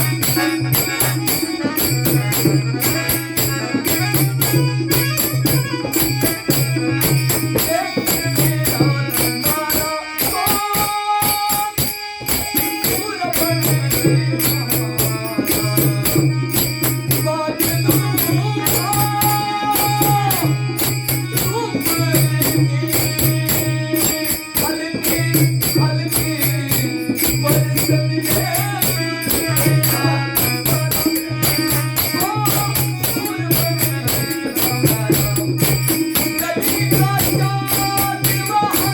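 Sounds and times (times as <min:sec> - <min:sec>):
held melody note: 0:00.0 - 0:38.9
jingling percussion: 0:00.0 - 0:38.9.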